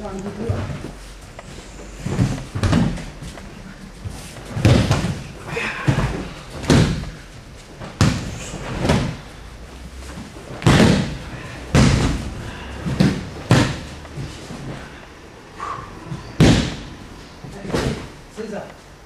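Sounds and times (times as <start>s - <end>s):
bodies thudding on mats: 0.3s - 15.0s, 15.6s - 18.2s.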